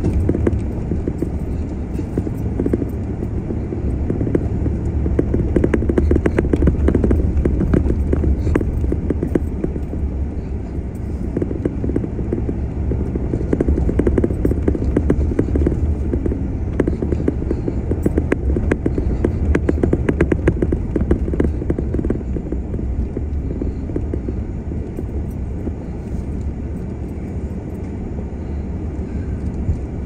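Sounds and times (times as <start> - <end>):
vehicle driving over gravel: 0.0 - 27.1.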